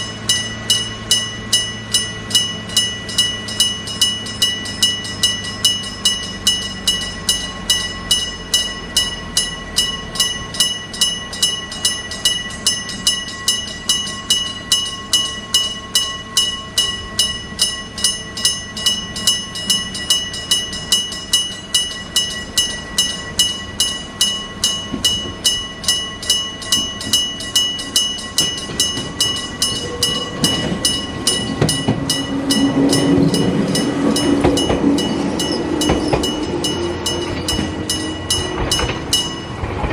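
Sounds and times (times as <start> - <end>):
level-crossing bell ringing: 0.0 - 39.9
train rumble: 0.0 - 39.9.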